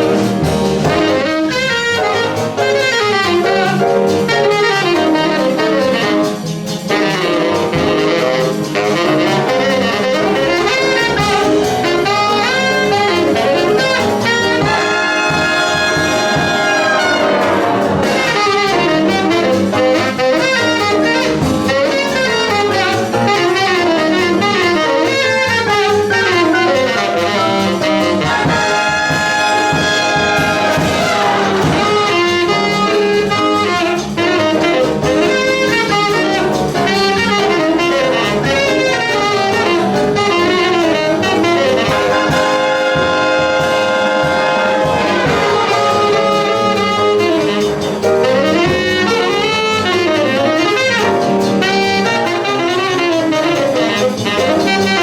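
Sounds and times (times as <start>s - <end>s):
jazz big band playing swing: 0.0s - 55.0s.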